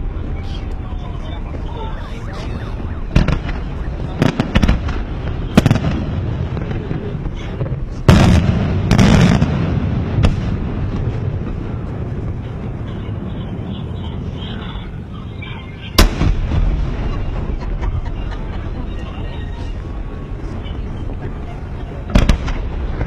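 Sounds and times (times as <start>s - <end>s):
rolling rumble: 0.0s - 23.0s
steady background noise: 0.0s - 23.0s.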